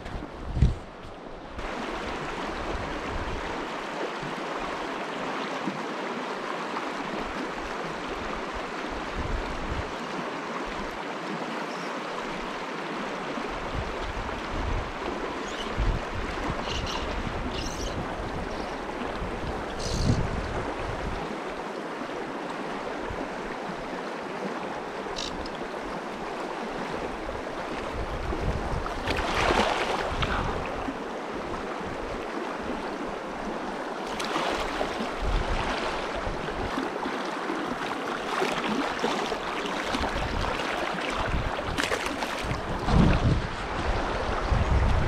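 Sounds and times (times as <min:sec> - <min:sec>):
stream rushing over rocks: 0:01.6 - 0:45.0.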